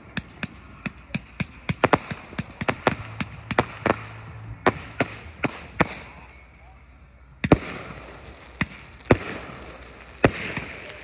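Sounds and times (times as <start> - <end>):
fireworks shooting sharp pops: 0.1 - 6.3, 7.4 - 11.0.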